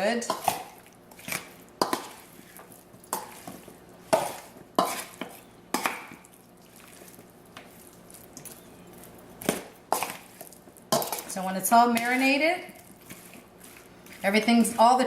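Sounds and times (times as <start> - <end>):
stirring meat in marinade: 0.0 - 15.0.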